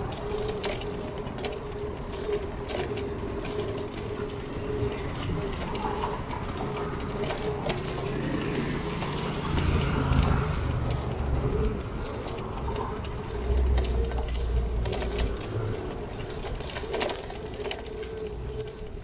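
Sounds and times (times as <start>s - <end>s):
bicycle chain and freewheel clicking: 0.0s - 19.0s.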